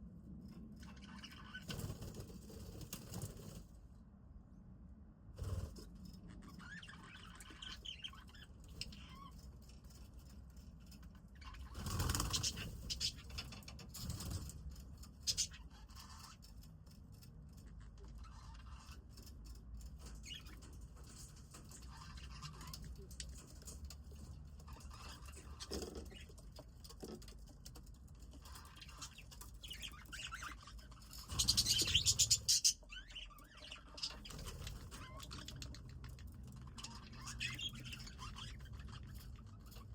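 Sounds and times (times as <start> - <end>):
budgies chirping and chattering: 0.8 - 3.6, 5.4 - 39.9.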